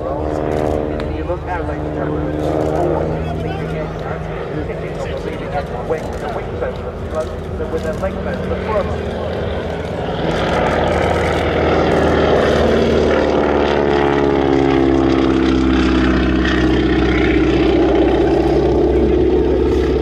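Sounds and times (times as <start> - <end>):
biplane engine flying past: 0.0 - 20.0.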